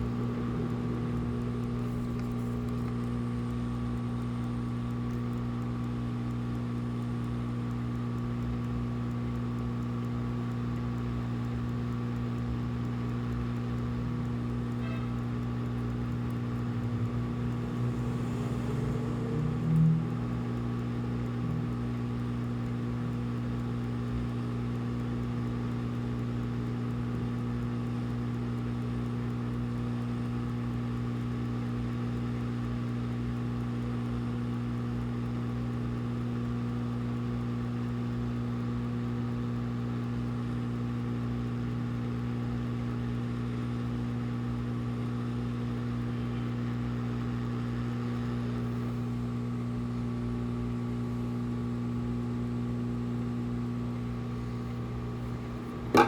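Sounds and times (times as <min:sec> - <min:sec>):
low hum with buzz: 0:00.0 - 0:56.0.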